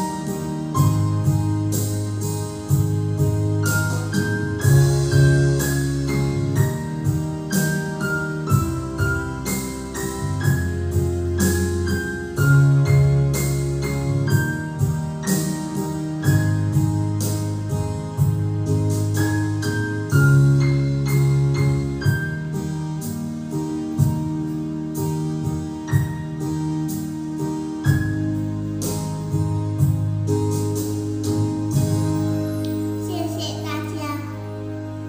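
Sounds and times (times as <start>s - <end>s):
electronic keyboard melody: 0.0s - 35.0s.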